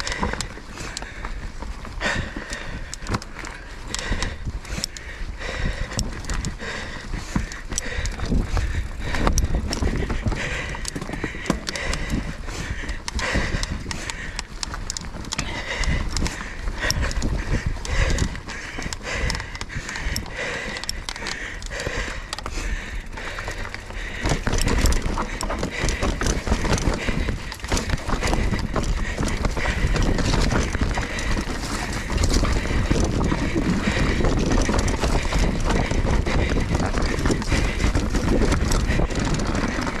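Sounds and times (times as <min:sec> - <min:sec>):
bike tyres rolling on dirt: 0:00.0 - 0:40.0
wind rumble on microphone: 0:00.0 - 0:40.0
chain and frame rattling: 0:02.2 - 0:40.0.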